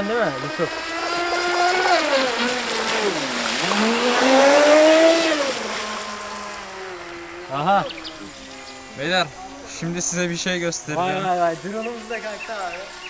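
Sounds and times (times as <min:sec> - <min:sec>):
electric boat motor whining: 0:00.0 - 0:13.0.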